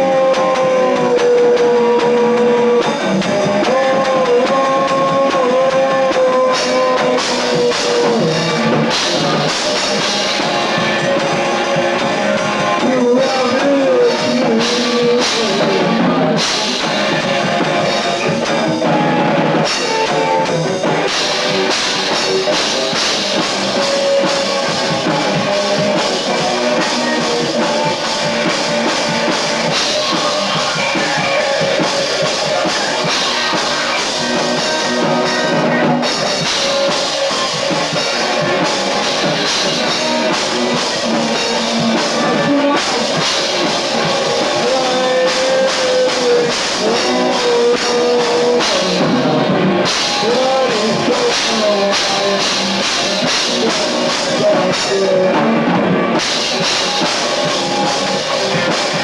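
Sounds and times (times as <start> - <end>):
bending guitar melody: 0.0 - 59.0
drum kit beat: 0.0 - 59.0
rock band playing: 0.0 - 59.0.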